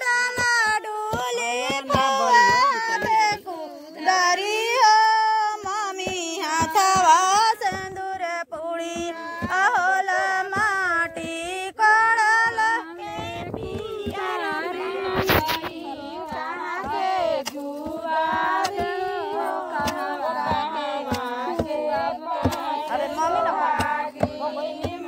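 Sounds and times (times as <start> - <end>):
women singing folk song: 0.0 - 25.0.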